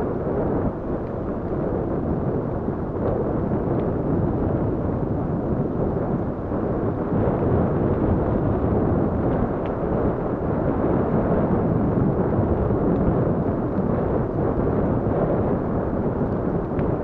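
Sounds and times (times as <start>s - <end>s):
wind buffeting microphone: 0.0s - 17.0s
bike tyres rolling on stony track: 0.1s - 17.0s.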